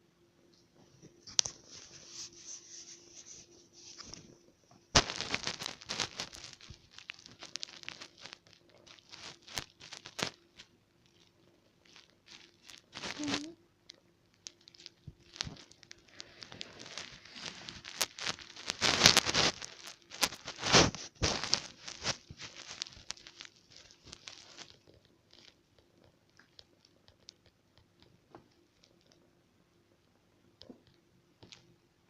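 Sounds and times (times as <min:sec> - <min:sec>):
rustling and crinkling handling: 0:00.7 - 0:27.3.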